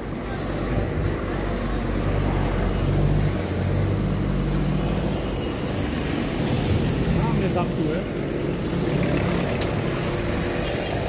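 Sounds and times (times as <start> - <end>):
cars and bus passing: 0.0 - 11.0.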